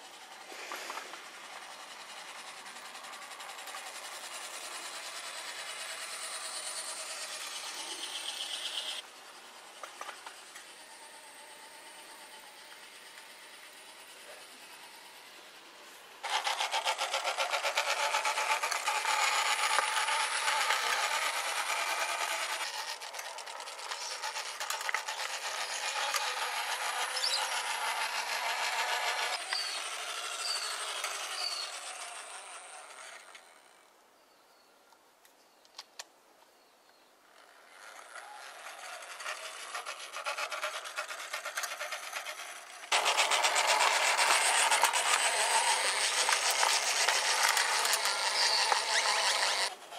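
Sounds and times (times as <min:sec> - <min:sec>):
model tram rattling on rails: 0:00.0 - 0:11.1, 0:12.0 - 0:33.4, 0:37.5 - 0:49.9.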